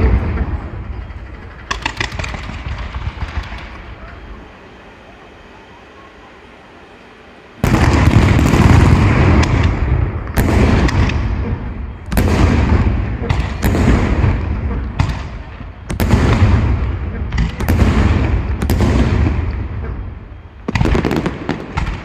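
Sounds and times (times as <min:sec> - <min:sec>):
fireworks bursting with loud bangs: 0:00.0 - 0:04.9, 0:07.6 - 0:22.0.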